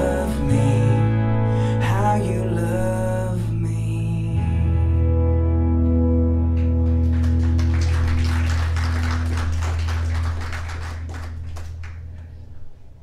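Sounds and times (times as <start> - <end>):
held pop song chord: 0.0 - 11.2.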